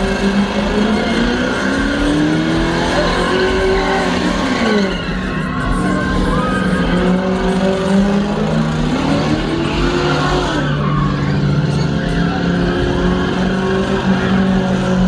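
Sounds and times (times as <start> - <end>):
car engine at high revs: 0.0 - 15.0
tires squealing: 0.0 - 15.0.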